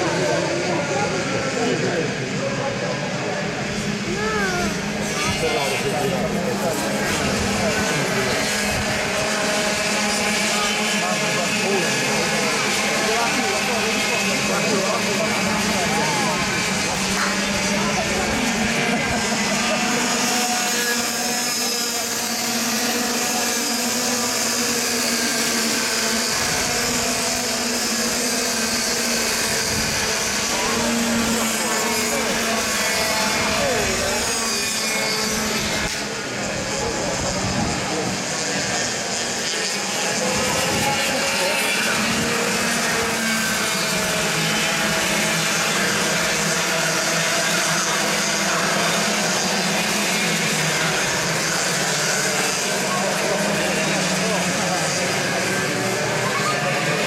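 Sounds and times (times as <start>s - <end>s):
racing kart engines buzzing: 0.0s - 57.0s.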